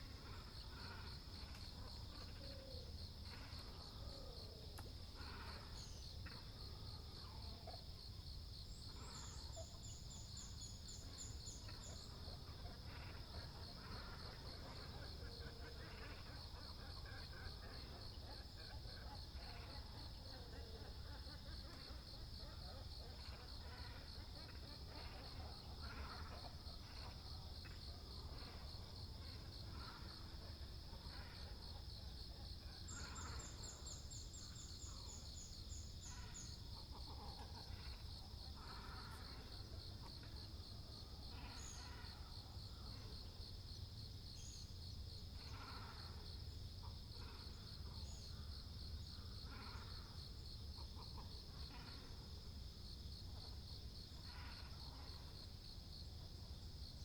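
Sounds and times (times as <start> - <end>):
cormorants and herons croaking: 0.0 - 8.0, 8.7 - 43.4, 44.4 - 52.6, 53.4 - 55.6.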